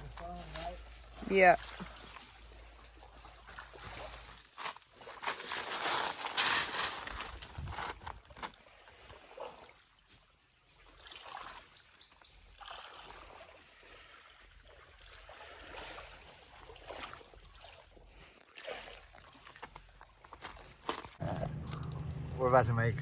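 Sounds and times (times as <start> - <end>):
water trickling and lapping: 0.0 - 22.6.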